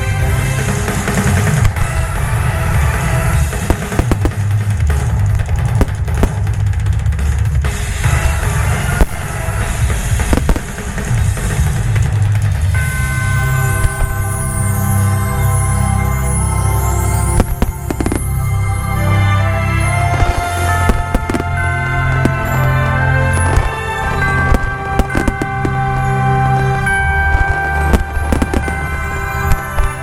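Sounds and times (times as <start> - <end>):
fireworks bangs: 0.0 - 30.0
low booming rumble: 0.0 - 30.0
music: 0.0 - 30.0.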